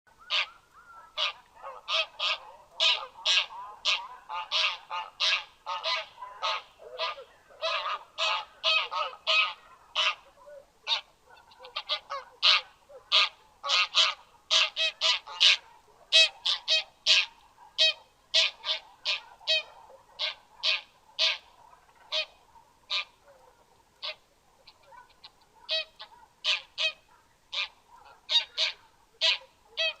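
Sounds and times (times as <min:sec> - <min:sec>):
geese honking: 0:00.2 - 0:30.0.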